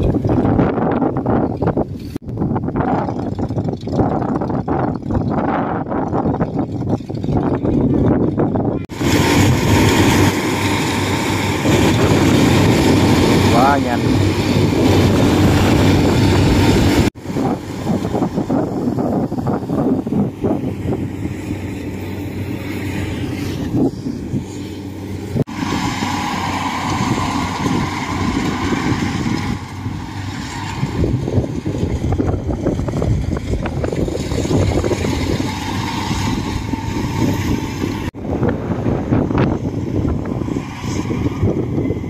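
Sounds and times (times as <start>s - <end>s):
combine harvester running: 0.0s - 42.0s.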